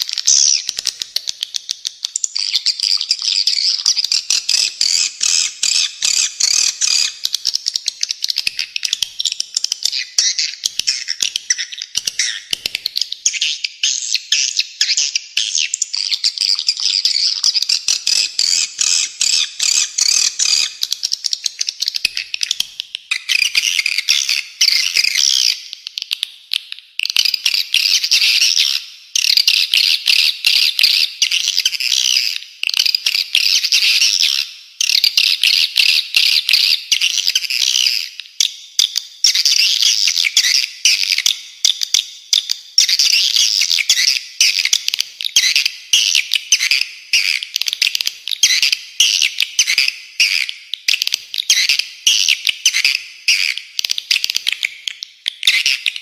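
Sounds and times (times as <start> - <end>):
harsh rapid bird chattering: 0.0 - 25.9, 27.0 - 56.0.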